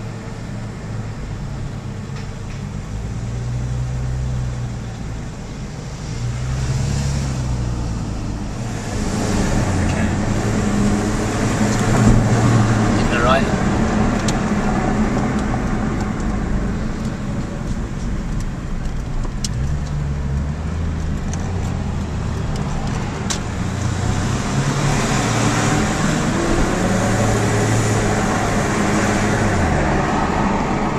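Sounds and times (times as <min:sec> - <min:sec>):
road noise: 0:00.0 - 0:30.9.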